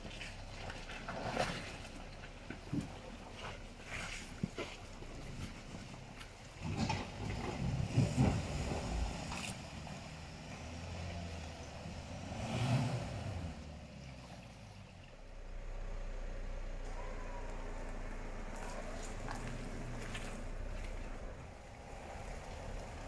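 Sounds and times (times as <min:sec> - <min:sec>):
vehicle engine working uphill: 0:00.0 - 0:23.0.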